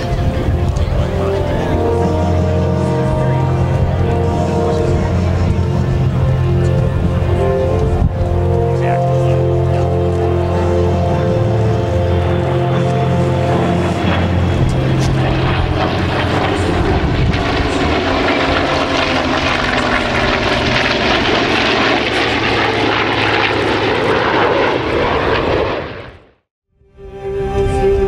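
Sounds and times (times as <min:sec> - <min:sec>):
jet roar: 0:00.0 - 0:26.5
propeller engine drone: 0:00.0 - 0:28.0.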